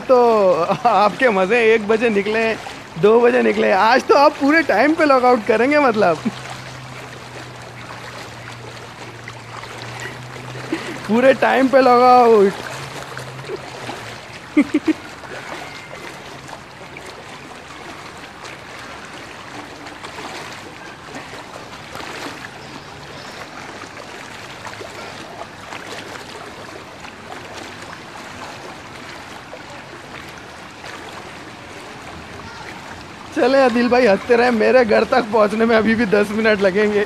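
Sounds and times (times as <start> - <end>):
water sloshing around wading legs: 0.0 - 37.0.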